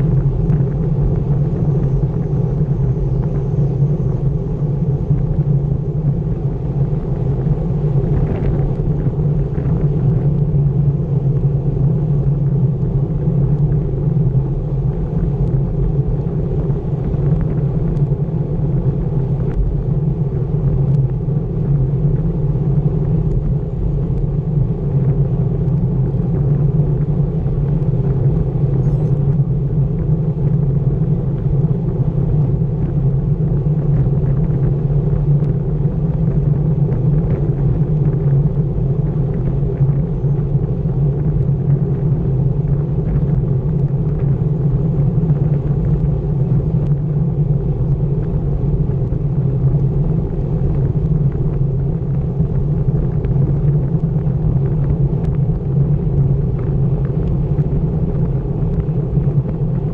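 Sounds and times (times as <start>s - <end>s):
bike tyres humming on asphalt: 0.0s - 59.9s
wind rumble on microphone: 0.0s - 59.9s.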